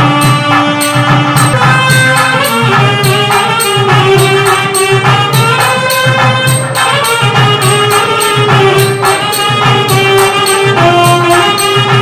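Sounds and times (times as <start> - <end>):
melody of long held notes: 0.0 - 12.0
quick percussion beat: 0.0 - 12.0.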